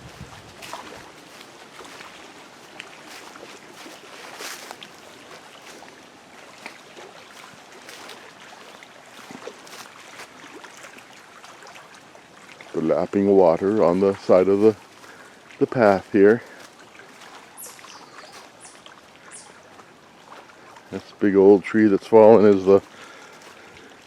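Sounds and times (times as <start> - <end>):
water lapping against shore: 0.0 - 24.0.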